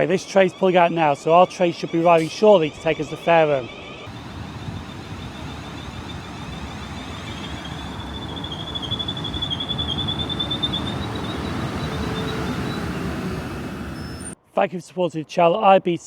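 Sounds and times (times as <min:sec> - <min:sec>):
high thin squeal: 0:00.0 - 0:14.4
train rumble: 0:00.0 - 0:14.4.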